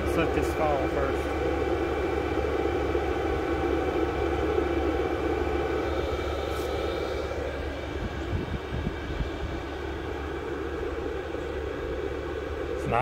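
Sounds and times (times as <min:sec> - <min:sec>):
air heater blower running: 0:00.0 - 0:13.0.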